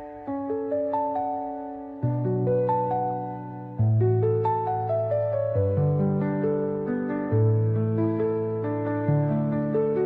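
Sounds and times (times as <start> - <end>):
soft instrumental music: 0.0 - 10.0.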